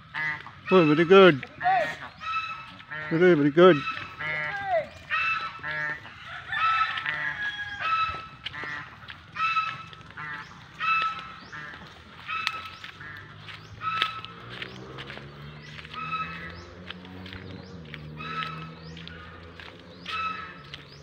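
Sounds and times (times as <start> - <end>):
fowl honking calls: 0.0 - 21.0.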